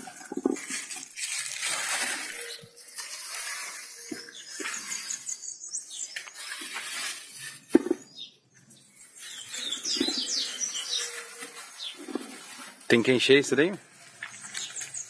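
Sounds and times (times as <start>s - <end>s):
small birds chirping: 2.2s - 15.0s.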